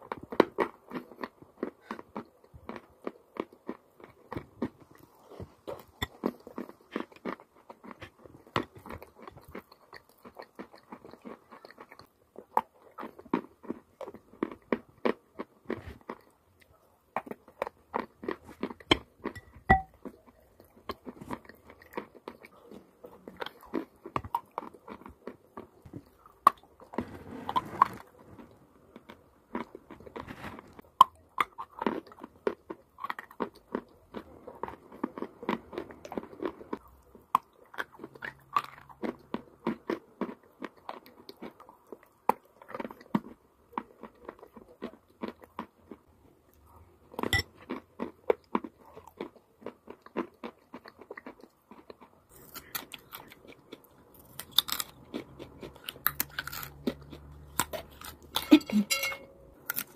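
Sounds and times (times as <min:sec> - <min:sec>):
crunchy chalk chewing: 0:00.0 - 0:58.8.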